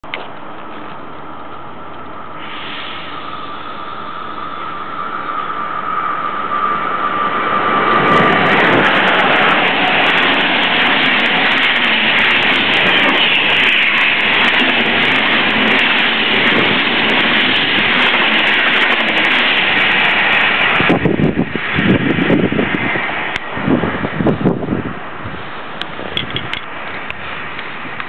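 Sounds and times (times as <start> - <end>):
train wheels rushing on rails: 0.1 - 28.0
wind buffeting microphone: 4.7 - 28.0.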